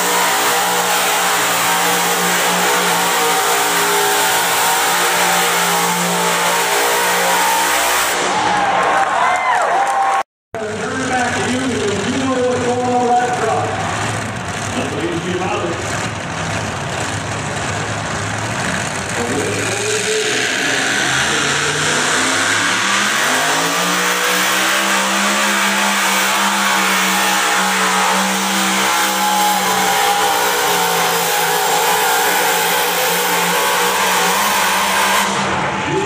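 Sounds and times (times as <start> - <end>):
vehicle engine revving: 0.0 - 8.6, 10.6 - 36.0.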